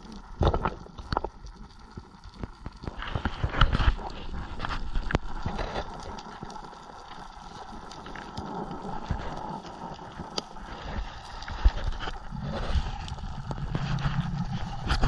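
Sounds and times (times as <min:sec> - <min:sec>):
low rumble of water movement: 0:00.0 - 0:15.0
sharp clicks underwater: 0:00.0 - 0:15.0.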